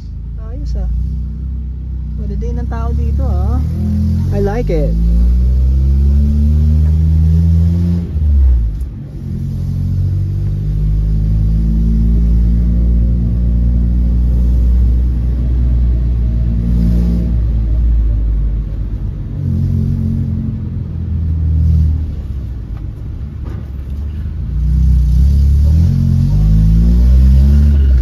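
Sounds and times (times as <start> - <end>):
car engine humming: 0.0 - 28.0
road noise: 0.0 - 28.0.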